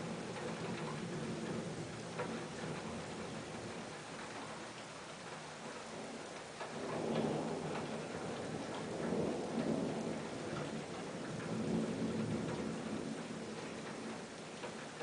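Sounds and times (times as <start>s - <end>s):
thunder rumbling: 0.0s - 3.9s, 6.0s - 14.3s
steady rain: 0.0s - 15.0s.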